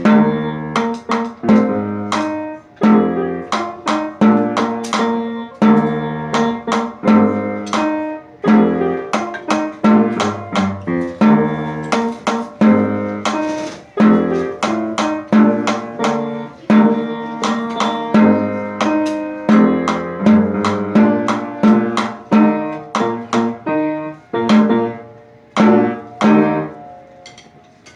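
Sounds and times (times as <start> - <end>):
plucked string instrument tune: 0.0 - 27.5.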